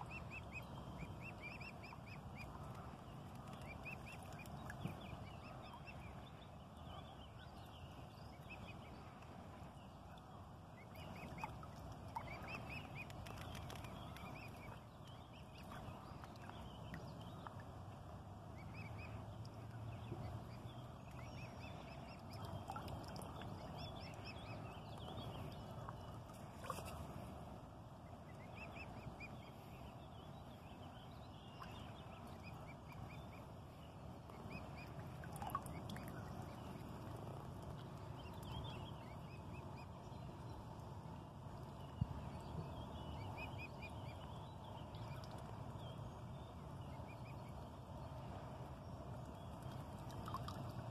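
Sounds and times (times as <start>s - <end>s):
low background rumble: 0.0s - 50.9s.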